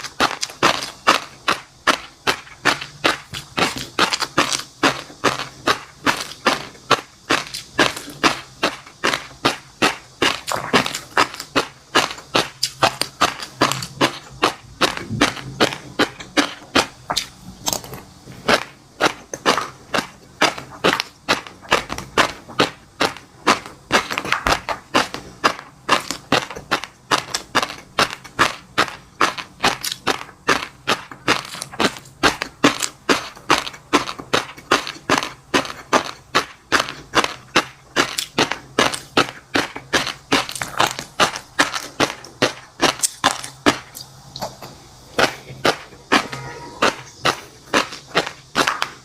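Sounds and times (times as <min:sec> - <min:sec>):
crunchy food chewing: 0:00.0 - 0:49.0.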